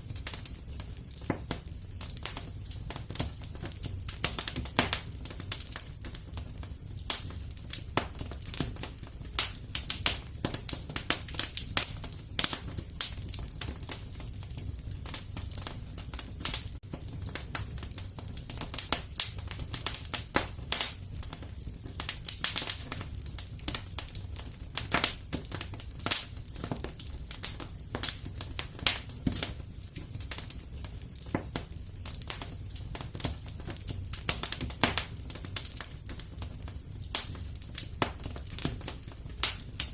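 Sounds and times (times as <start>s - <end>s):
fire flames rumbling: 0.0s - 39.9s
fire snaps and pops: 0.0s - 39.9s.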